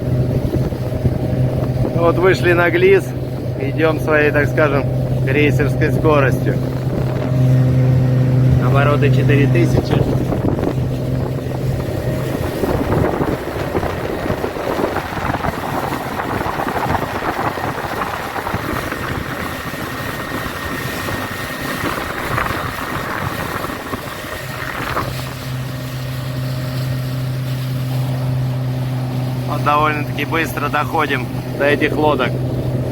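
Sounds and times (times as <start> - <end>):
motorboat engine hum: 0.0 - 32.9
wind and water rushing: 0.0 - 32.9.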